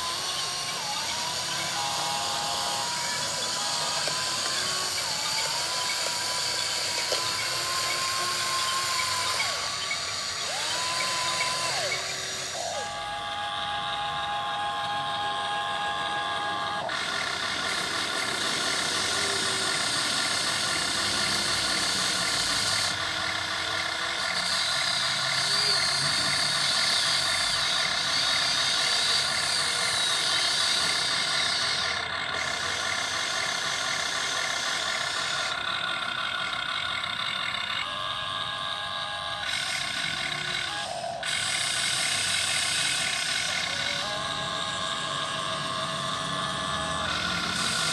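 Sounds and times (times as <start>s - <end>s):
model excavator motors whining: 0.0s - 47.9s.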